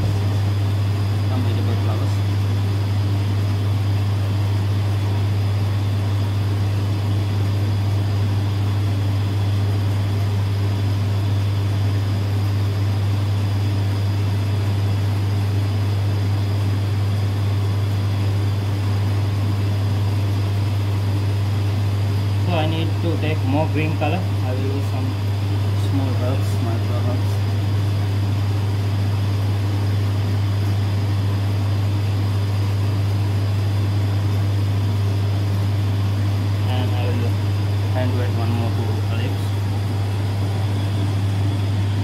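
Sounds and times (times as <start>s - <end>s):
ventilation fan humming: 0.0s - 42.0s.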